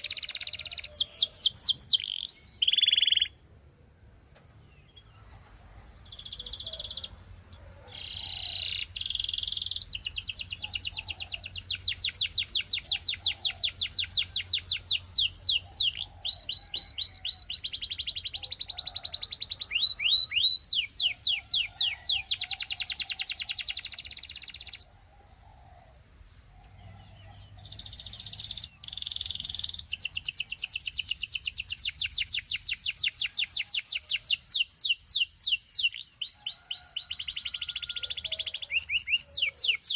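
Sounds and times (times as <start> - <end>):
canary singing trills: 0.0 - 3.4, 4.7 - 25.0, 26.5 - 39.9.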